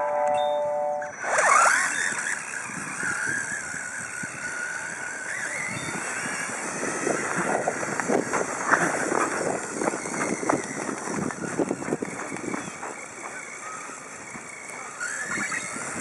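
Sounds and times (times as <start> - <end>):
robot motor whining: 1.0 - 16.0.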